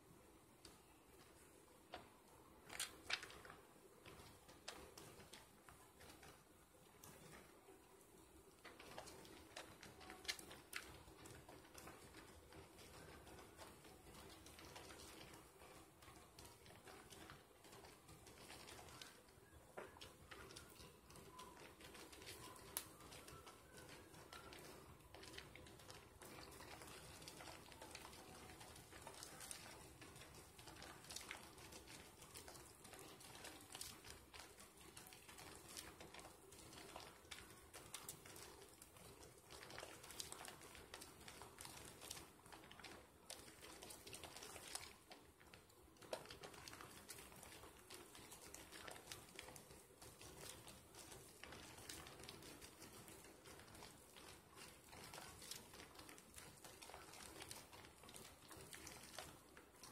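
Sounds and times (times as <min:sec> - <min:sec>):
soap lather squishing: 0:00.6 - 0:59.9.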